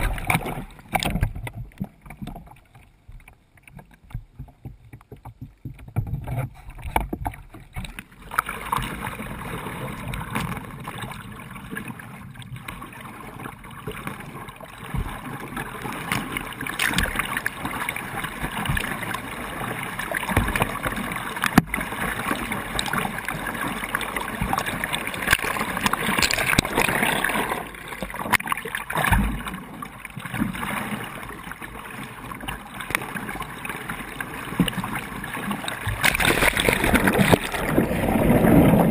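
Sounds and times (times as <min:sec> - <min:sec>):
paddle strokes in water: 0:00.0 - 0:38.9
water splashing and rushing: 0:00.0 - 0:38.9.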